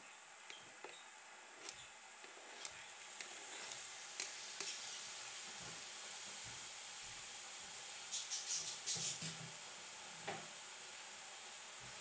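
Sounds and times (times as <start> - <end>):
tofu sizzling in a pan: 0.2 - 12.0.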